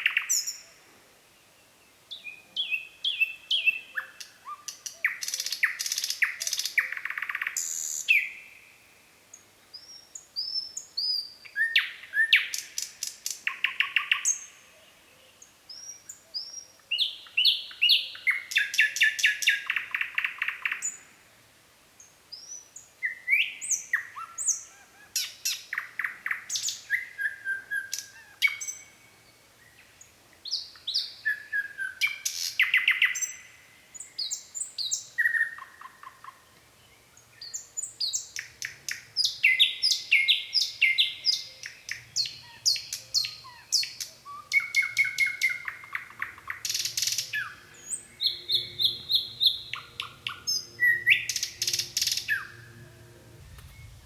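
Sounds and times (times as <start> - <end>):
nightingale singing: 0.0 - 0.8, 1.4 - 21.1, 22.3 - 54.0.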